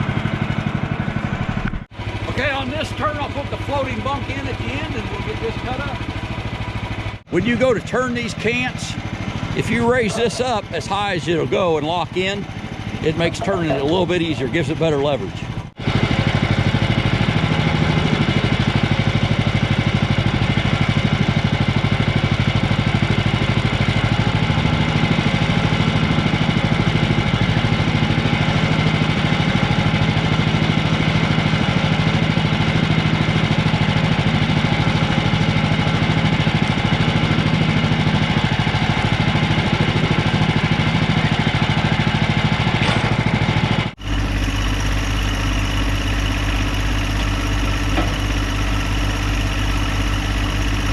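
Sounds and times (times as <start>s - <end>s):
lower heavier engine: 0.0s - 50.9s
sawmill gasoline engine running: 0.0s - 50.9s.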